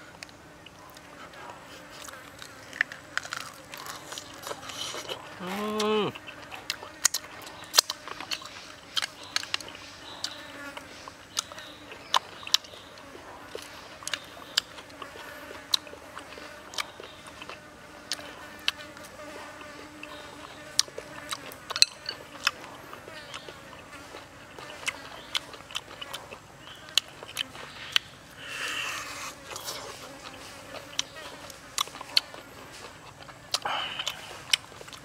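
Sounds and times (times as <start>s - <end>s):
faint insect buzz: 0.0s - 34.8s
chewing chicken wing: 0.2s - 28.2s, 28.9s - 35.0s.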